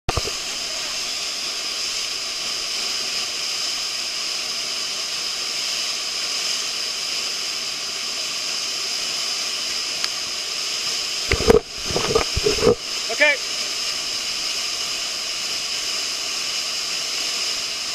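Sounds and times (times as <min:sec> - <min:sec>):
waterfall crashing: 0:00.1 - 0:17.9.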